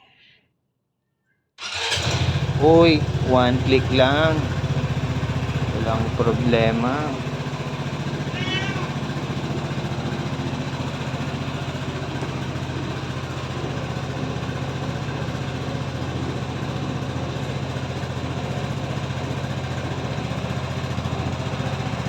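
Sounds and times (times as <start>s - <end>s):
motorcycle engine idling: 1.7s - 22.0s.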